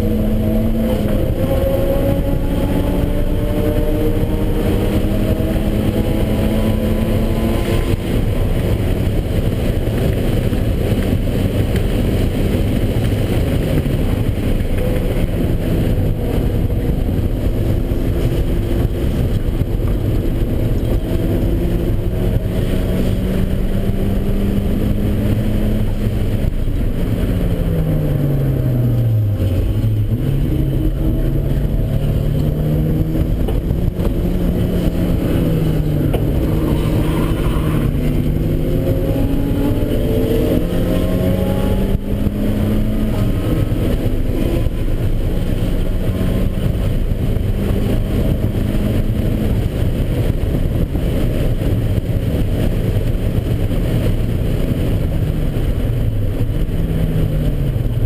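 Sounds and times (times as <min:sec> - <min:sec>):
car engine revving through gears: 0:00.0 - 0:58.0
wind and road noise: 0:00.0 - 0:58.0.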